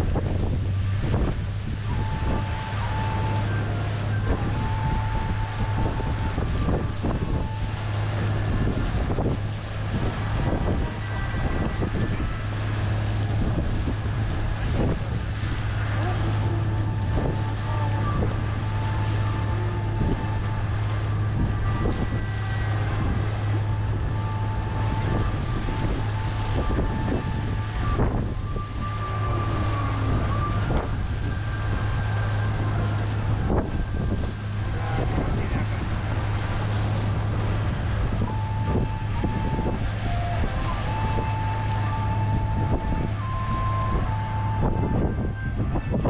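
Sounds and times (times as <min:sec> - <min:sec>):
boat engine droning: 0:00.0 - 0:46.0
wind buffeting microphone: 0:00.0 - 0:46.0.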